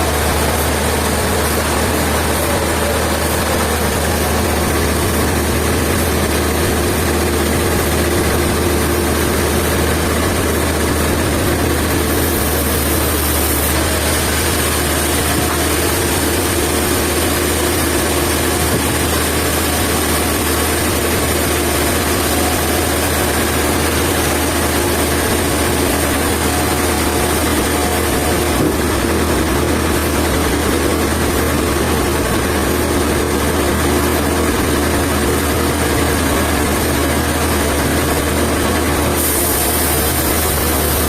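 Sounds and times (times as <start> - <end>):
sawmill machinery humming: 0.0 - 41.0.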